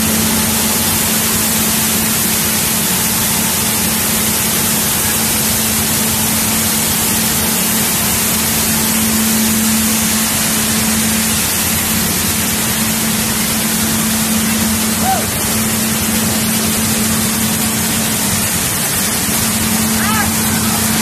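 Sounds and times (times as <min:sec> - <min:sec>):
grain cleaning machinery hissing: 0:00.0 - 0:21.0
low machine hum: 0:00.0 - 0:21.0.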